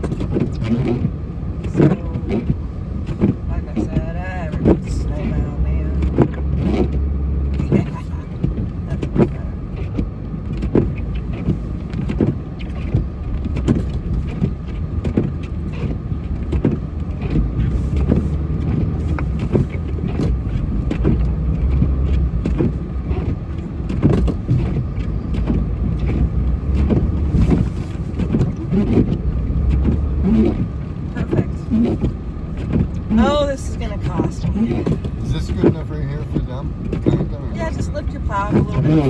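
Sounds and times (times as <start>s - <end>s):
plow scraping snow: 0.0s - 39.0s
truck engine running: 0.0s - 39.0s
short knocks and scrapes: 6.0s - 39.0s.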